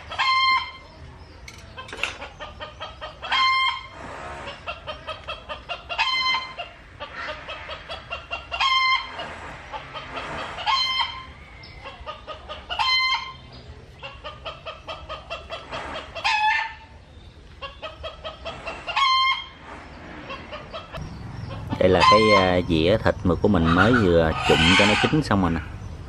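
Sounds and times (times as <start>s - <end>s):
chicken cackling: 0.0s - 1.0s, 1.7s - 25.7s.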